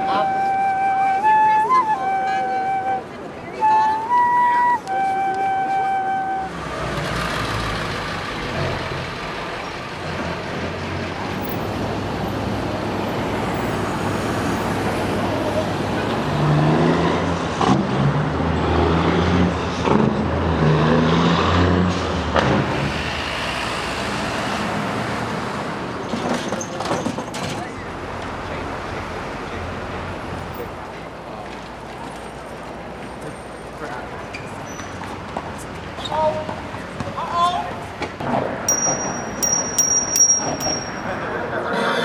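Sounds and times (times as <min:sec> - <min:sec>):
city street traffic: 0:00.0 - 0:42.0.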